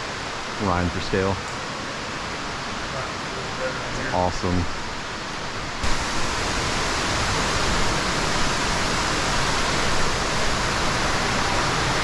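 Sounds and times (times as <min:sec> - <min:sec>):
waterfall rushing in a cave: 0:00.0 - 0:12.0.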